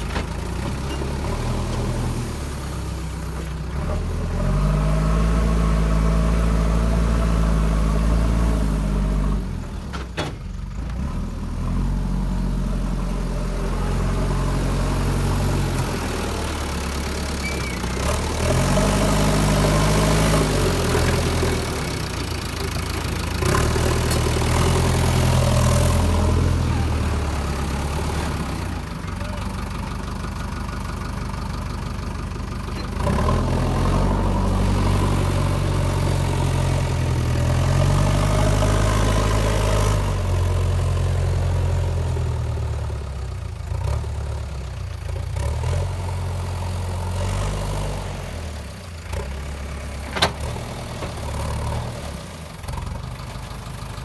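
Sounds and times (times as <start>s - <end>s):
diesel engine revving: 0.0s - 54.0s.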